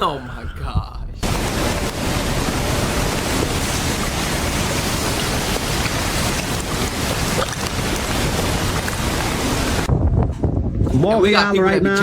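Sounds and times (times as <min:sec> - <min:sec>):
storm wind on microphone: 0:00.4 - 0:12.0.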